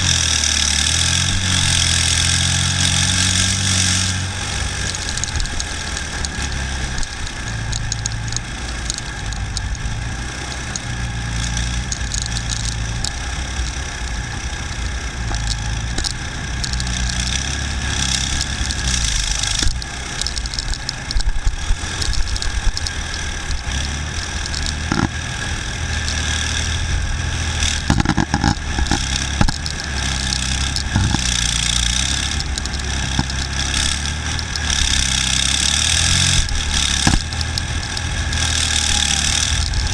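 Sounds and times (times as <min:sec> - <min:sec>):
constant rattle: 0:00.0 - 0:39.9
diesel engine under load: 0:00.0 - 0:39.9.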